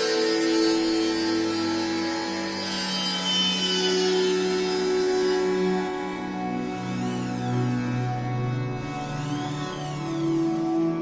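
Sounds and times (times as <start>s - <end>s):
music of sustained notes: 0.0s - 11.0s.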